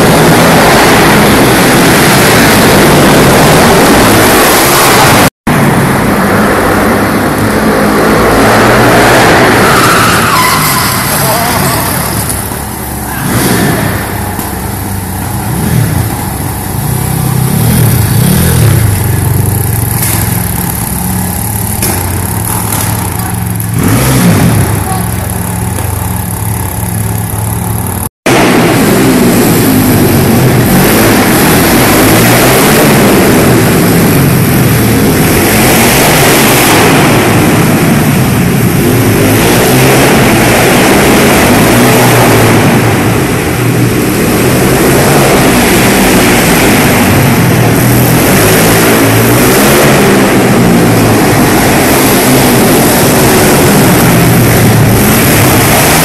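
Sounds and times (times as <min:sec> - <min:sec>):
pit bike engines revving: 0:00.0 - 0:56.0
steady engine drone: 0:00.0 - 0:56.0.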